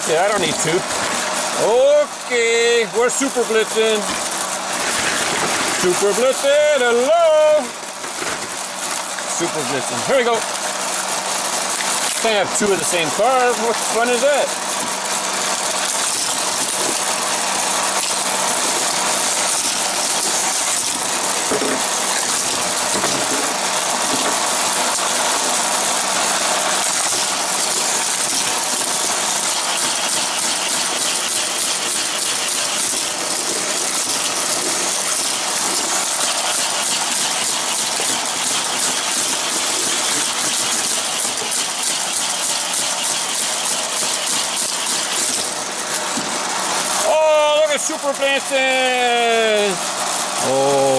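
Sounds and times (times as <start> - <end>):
toy track booster whirring: 0.0 - 50.9.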